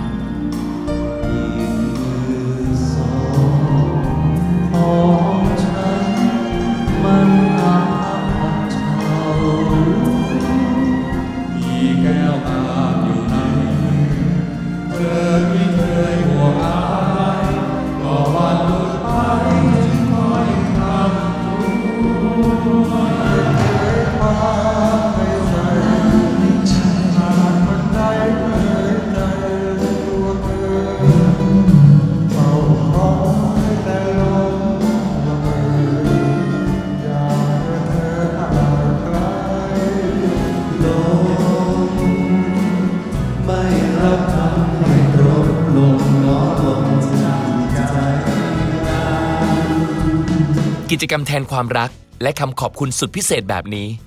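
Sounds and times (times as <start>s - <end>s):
men singing into microphones: 0.0s - 51.7s
backing band playing: 0.0s - 54.0s.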